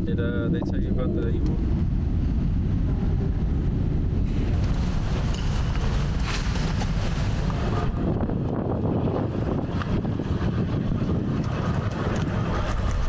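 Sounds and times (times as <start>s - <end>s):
steady low rumble: 0.0s - 13.0s
wind noise on microphone: 0.0s - 13.0s.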